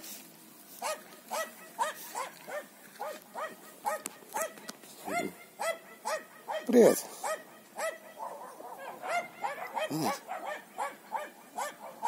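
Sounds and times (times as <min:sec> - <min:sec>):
dog barking: 0:00.8 - 0:12.0.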